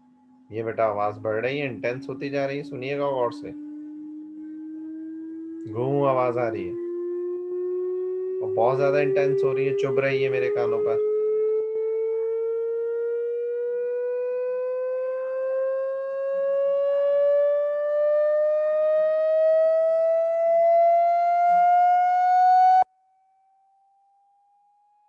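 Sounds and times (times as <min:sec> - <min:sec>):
electronic tone sweeping upward: 0:00.1 - 0:22.8.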